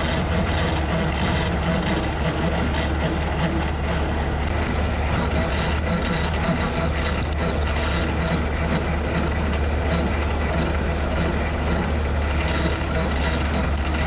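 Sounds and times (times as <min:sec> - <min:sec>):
rotary cutter mowing: 0:00.0 - 0:14.0
tractor engine running: 0:00.0 - 0:14.0.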